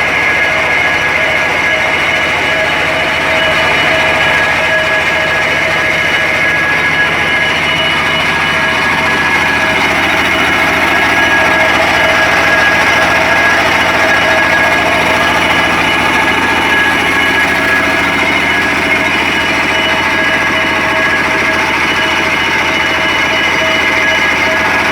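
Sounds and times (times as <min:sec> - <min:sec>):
brick press machine rattling: 0:00.0 - 0:24.9.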